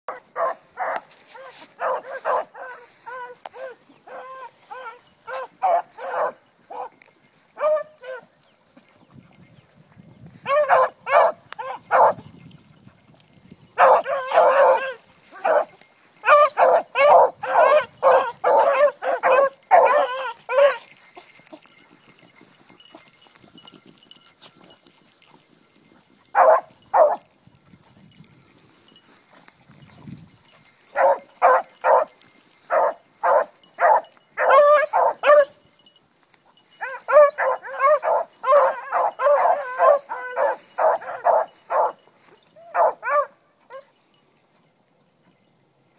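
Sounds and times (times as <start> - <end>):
hounds baying: 0.1 - 9.1, 10.4 - 28.7, 30.5 - 35.9, 36.5 - 44.1.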